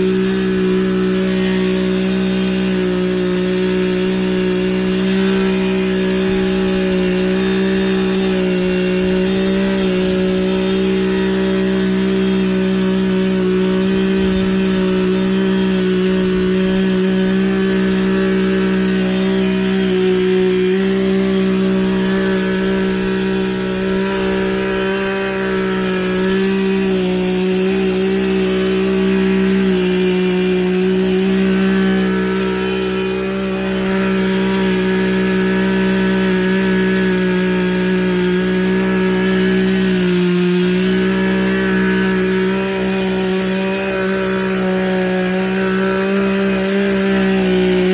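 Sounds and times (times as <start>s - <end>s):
chainsaw running at high revs: 0.0s - 47.9s.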